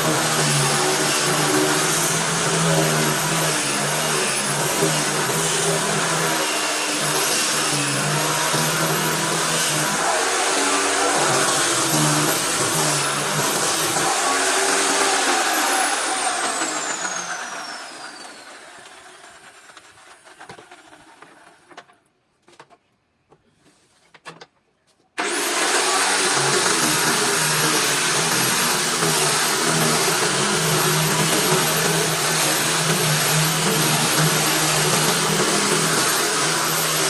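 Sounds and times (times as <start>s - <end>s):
power tool motor whine: 0.0s - 20.4s, 25.2s - 37.0s.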